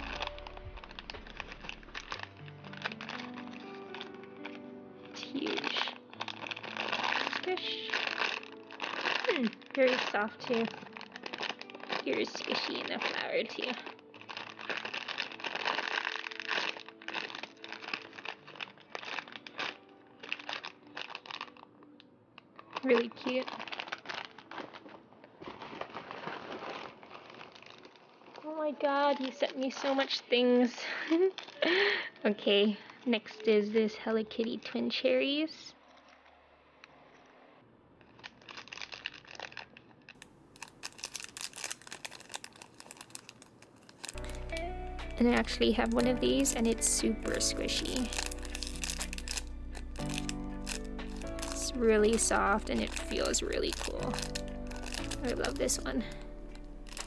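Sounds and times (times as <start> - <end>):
plastic packaging crinkling: 0.0 - 33.5, 38.0 - 57.0.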